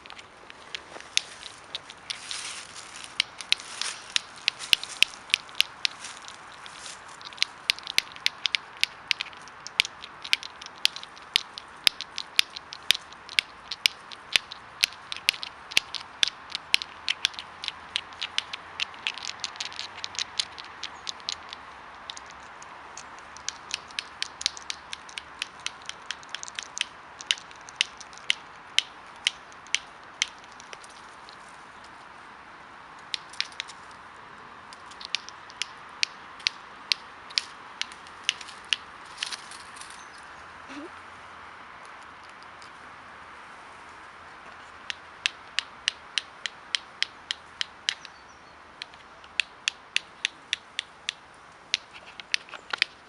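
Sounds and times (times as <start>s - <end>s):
walnut shells cracking: 0.0s - 31.4s, 33.0s - 34.0s, 34.7s - 40.0s, 44.8s - 48.2s, 48.8s - 53.0s.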